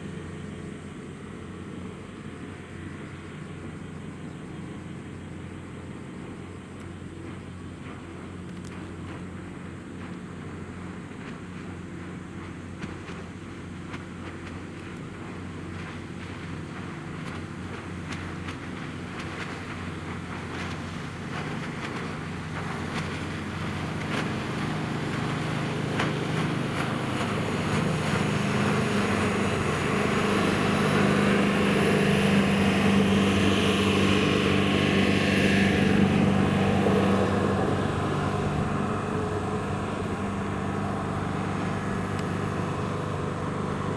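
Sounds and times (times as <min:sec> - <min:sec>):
boat diesel engine drone: 0:00.0 - 0:43.9.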